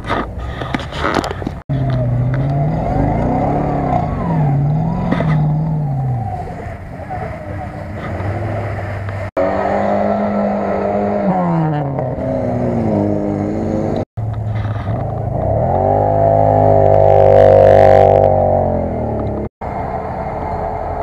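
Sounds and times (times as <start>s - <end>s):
atv engine revving: 1.6s - 21.0s
off-road vehicle engine revving: 1.6s - 21.0s.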